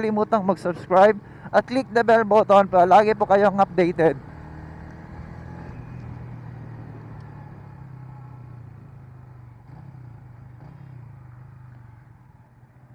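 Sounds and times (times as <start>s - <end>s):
motorcycle engine running: 1.2s - 12.9s.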